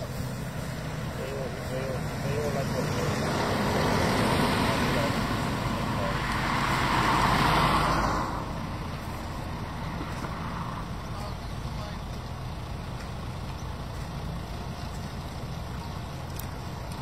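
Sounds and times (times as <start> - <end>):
vehicles driving past: 0.0 - 17.0.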